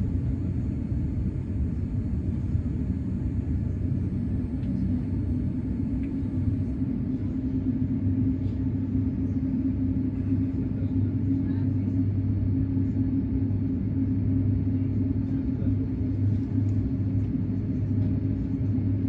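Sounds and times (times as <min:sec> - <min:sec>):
airplane engines rumbling in cabin: 0:00.0 - 0:19.0
low hum: 0:00.0 - 0:19.0.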